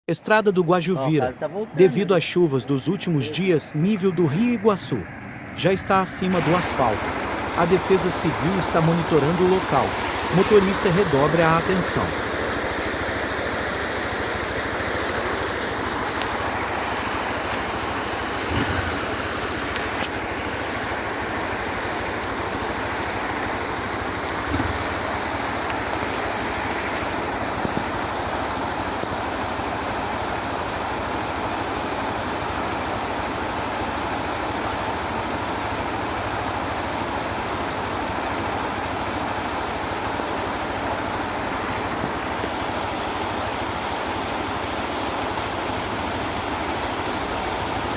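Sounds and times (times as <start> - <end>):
floodwater rushing across road: 0.2 - 47.9.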